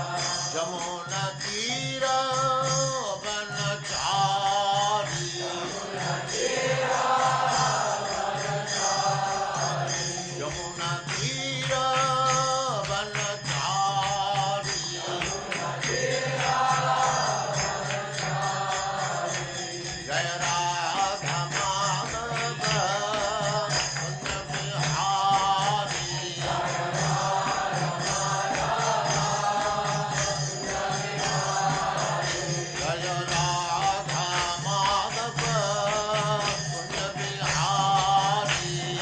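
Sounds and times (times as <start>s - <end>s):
mantra chanting to music: 0.0s - 39.0s.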